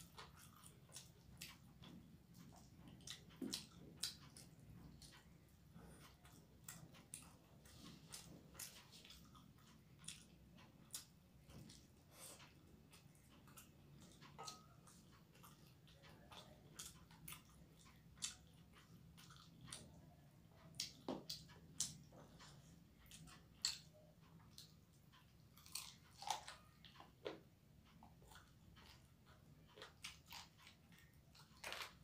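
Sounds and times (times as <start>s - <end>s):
chewing and biting food: 0.0s - 32.0s.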